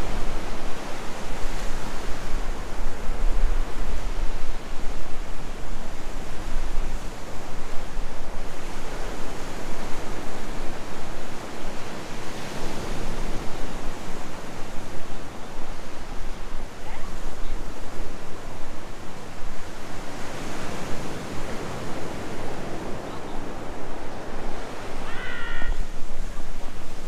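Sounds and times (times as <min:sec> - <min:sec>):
ocean surf: 0:00.0 - 0:27.0
wind rumbling on microphone: 0:00.0 - 0:27.0.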